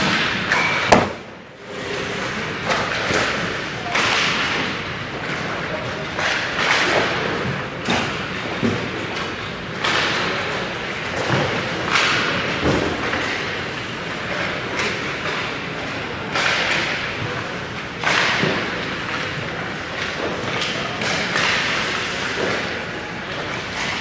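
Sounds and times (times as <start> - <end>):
pucks and sticks knocking boards: 0.0 - 1.3, 2.6 - 24.0.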